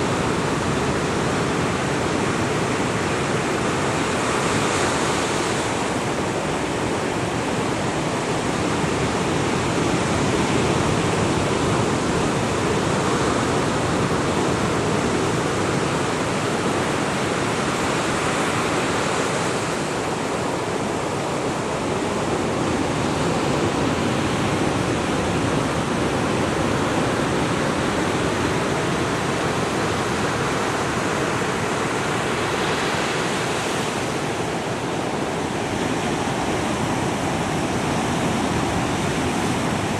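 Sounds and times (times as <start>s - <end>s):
surf breaking on a beach: 0.0s - 39.9s.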